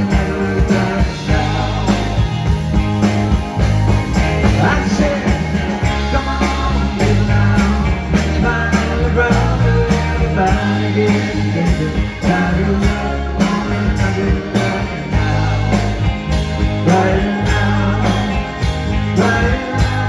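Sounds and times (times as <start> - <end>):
live rock band playing: 0.0 - 20.0
steady drum beat: 0.0 - 20.0
sustained bass notes: 0.0 - 20.0.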